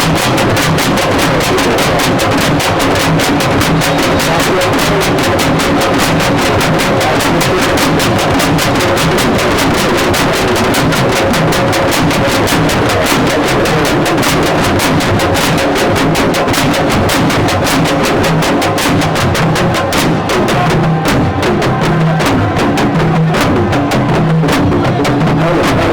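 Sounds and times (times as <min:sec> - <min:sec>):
dense noisy din: 0:00.0 - 0:25.9
loud fast drumming: 0:00.0 - 0:25.9.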